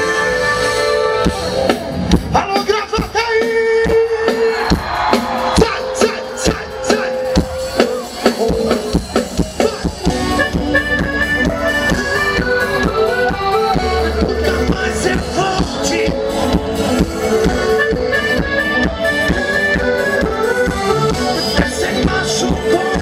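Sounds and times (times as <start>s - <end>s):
live band playing: 0.0s - 23.0s.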